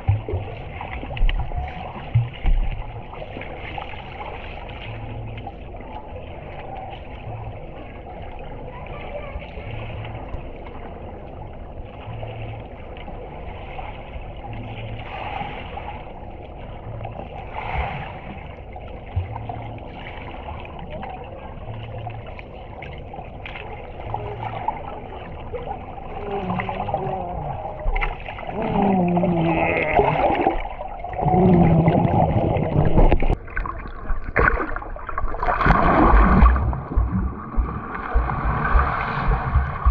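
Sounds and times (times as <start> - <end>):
pulsing low hum: 0.0 - 8.9, 9.6 - 39.9
muffled underwater water stirring: 0.0 - 39.9.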